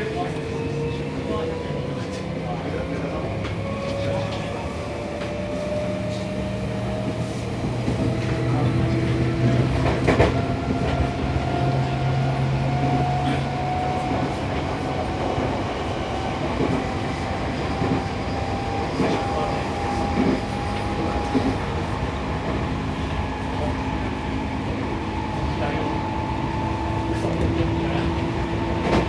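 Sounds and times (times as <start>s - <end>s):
wheels rumbling on rail: 0.0s - 29.0s.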